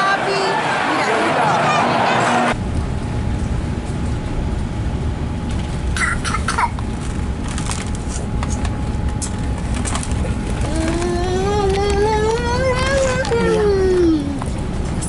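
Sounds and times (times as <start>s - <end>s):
train rumble inside carriage: 1.1s - 15.0s.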